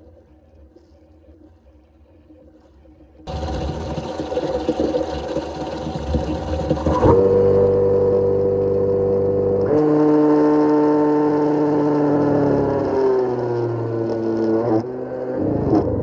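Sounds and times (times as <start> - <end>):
motor whine: 3.1 - 16.0.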